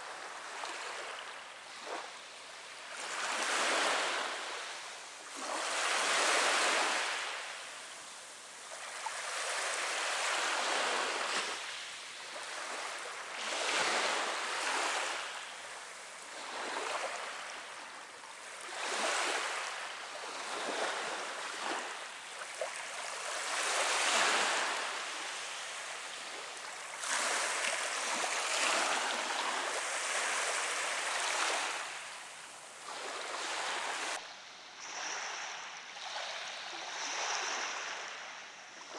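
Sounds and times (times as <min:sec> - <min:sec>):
small waves breaking on shore: 0:00.0 - 0:38.9.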